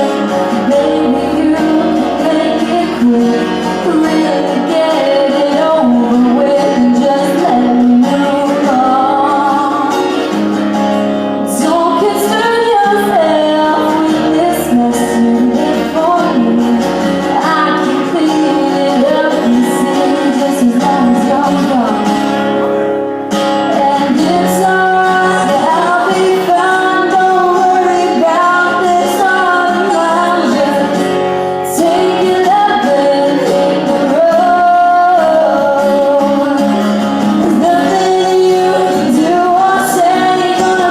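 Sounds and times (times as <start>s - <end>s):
strummed acoustic guitar: 0.0s - 40.9s
woman singing country song: 0.0s - 40.9s.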